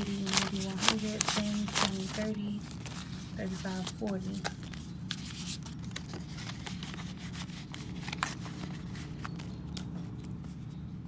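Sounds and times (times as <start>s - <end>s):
paper bills rustling: 0.0s - 10.8s
low steady hum: 0.0s - 11.0s.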